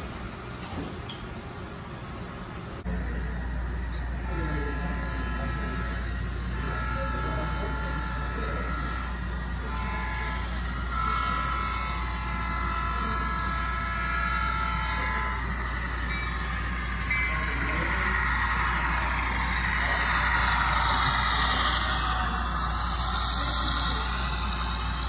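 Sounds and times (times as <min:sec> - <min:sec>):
steady low hum: 0:00.0 - 0:25.0
model locomotive horn blasts: 0:03.4 - 0:25.0.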